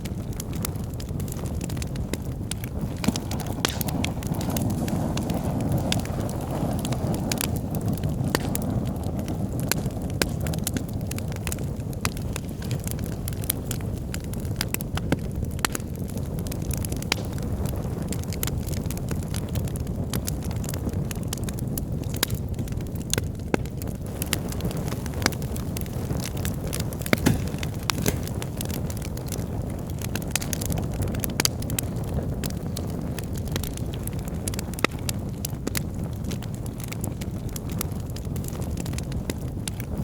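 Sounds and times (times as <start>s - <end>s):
fire burning in a fireplace: 0.0s - 40.0s
logs crackling and popping: 0.0s - 40.0s.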